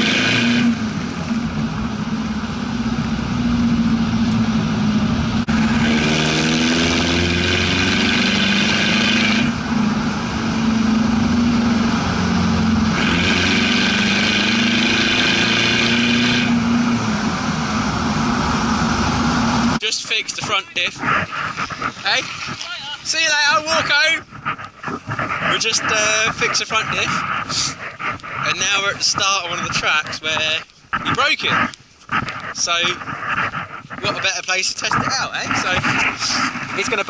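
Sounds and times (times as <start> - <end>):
diesel engine exhaust under load: 0.0 - 37.0.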